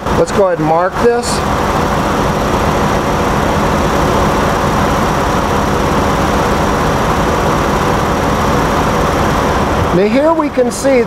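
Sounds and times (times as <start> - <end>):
engine idling with misfire: 0.0 - 11.0.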